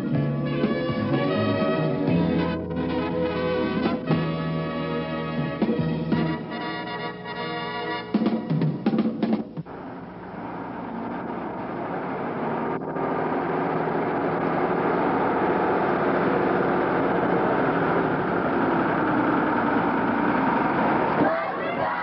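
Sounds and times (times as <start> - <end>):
bus diesel engine running: 0.0 - 8.6, 9.5 - 22.0.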